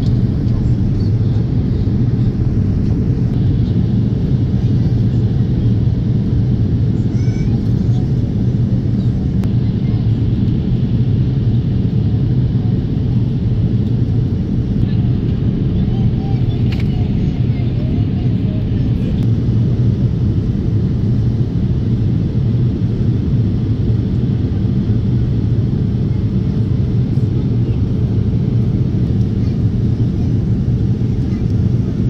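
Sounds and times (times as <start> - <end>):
jet engine drone in cabin: 0.0 - 32.0
rushing airflow: 0.0 - 32.0.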